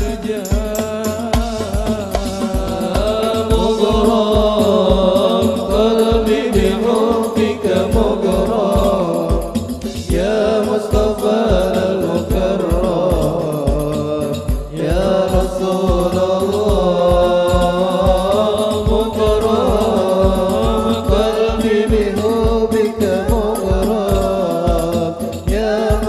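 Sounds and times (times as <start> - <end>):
frame drums beating: 0.0 - 26.0
man singing: 0.0 - 26.0.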